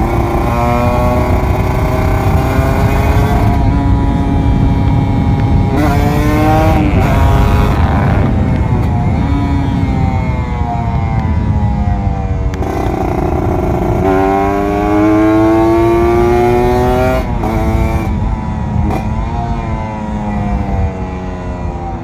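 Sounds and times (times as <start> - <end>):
motorcycle engine revving: 0.0 - 22.0
wind noise: 0.0 - 22.0.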